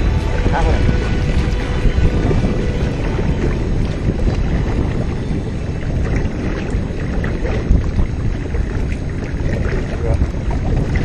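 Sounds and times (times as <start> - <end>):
water rushing along a hull: 0.0 - 11.0
wind rumbling on microphone: 0.0 - 11.0.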